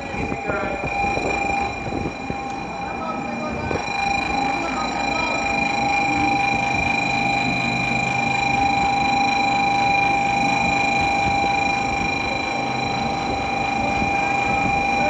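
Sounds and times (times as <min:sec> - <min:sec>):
train electrical whine: 0:00.0 - 0:15.0.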